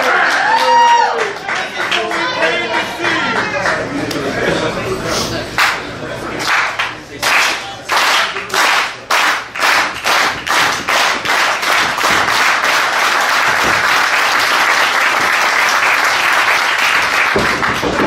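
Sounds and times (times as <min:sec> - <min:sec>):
crowd clapping in unison: 0:00.0 - 0:03.9, 0:05.6 - 0:05.8, 0:06.4 - 0:18.0.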